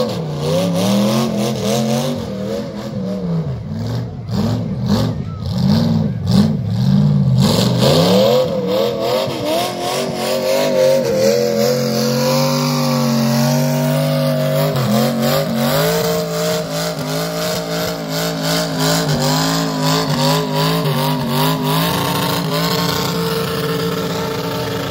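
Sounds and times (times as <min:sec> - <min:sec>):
engine revving at high revs: 0:00.0 - 0:24.9.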